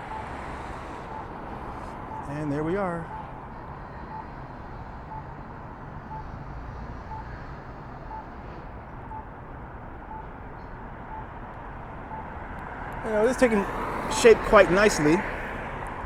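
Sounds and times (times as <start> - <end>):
street traffic rumble: 0.0 - 16.0
wind: 0.0 - 16.0.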